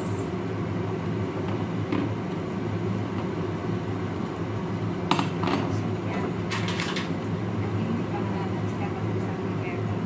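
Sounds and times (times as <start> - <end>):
kitchen appliance humming: 0.0 - 10.0.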